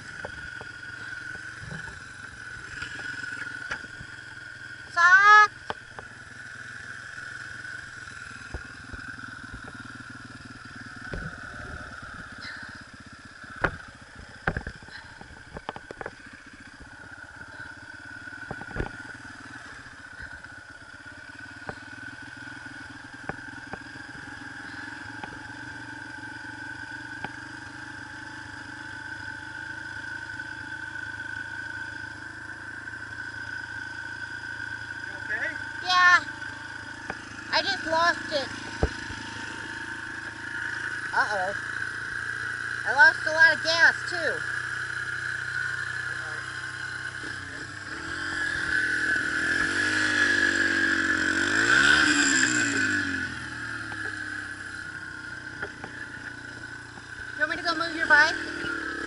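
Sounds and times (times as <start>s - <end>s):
dirt bike engine idling: 0.0s - 59.0s.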